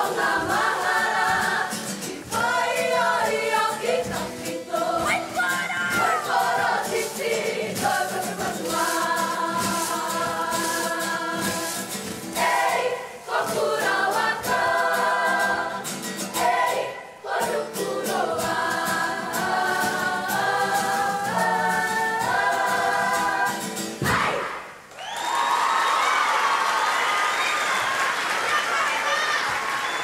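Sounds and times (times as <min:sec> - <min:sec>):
group singing together: 0:00.0 - 0:24.8.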